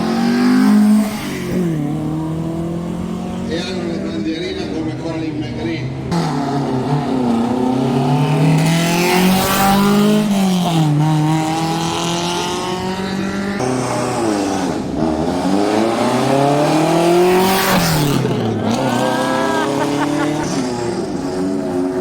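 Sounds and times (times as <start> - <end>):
racing car engines revving past: 0.0 - 22.0.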